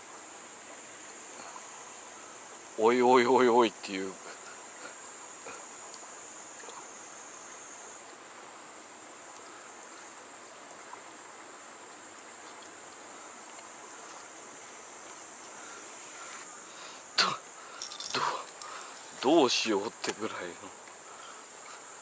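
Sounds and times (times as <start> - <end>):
high insect chorus: 0.0 - 22.0.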